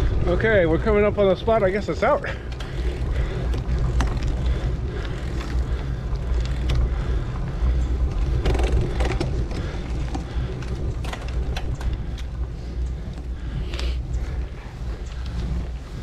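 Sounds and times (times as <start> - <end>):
tyre noise on pavement: 0.0 - 16.0
wind rumbling on microphone: 0.0 - 16.0
bicycle clicks and rattles: 1.4 - 16.0.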